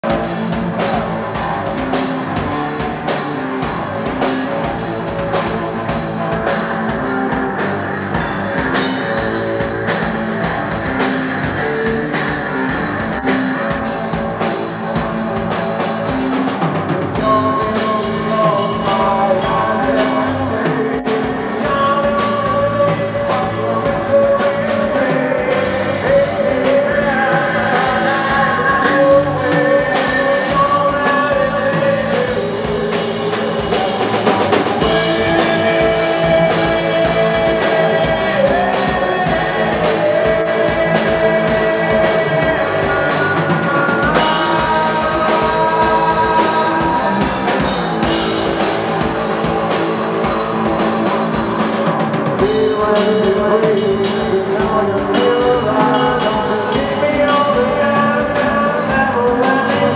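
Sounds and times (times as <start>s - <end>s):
drum kit beat: 0.0s - 59.9s
live rock band playing: 0.0s - 59.9s
man singing: 0.0s - 59.9s.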